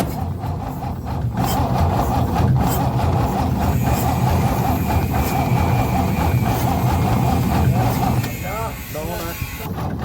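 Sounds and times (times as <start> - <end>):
car engine running steadily: 0.0 - 10.0.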